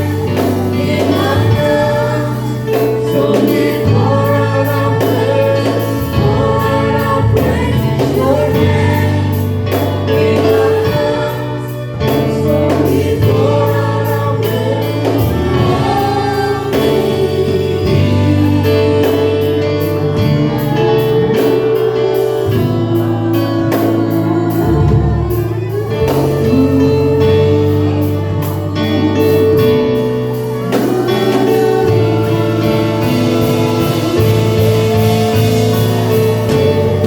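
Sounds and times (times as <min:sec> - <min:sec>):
choir singing held notes: 0:00.0 - 0:37.0
steady drum beat: 0:00.0 - 0:37.0
sustained bass notes: 0:00.0 - 0:37.0.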